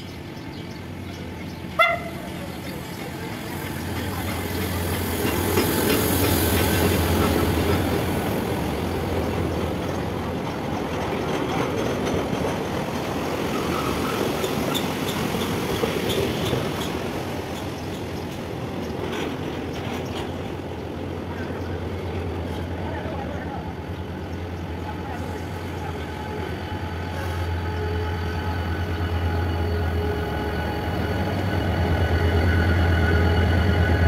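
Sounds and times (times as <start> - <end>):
diesel locomotive engine drone: 0.0 - 34.0
wagons rumbling on rails: 0.0 - 34.0.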